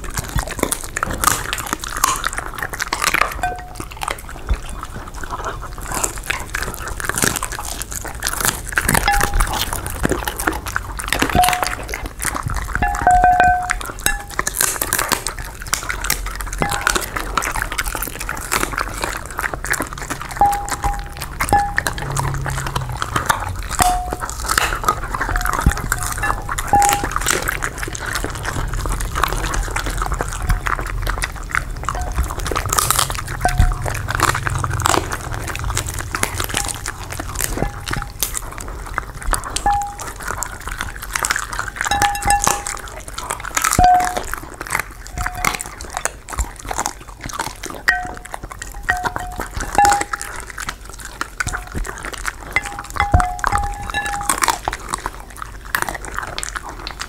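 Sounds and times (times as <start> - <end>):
dogs chewing and licking: 0.0 - 57.0.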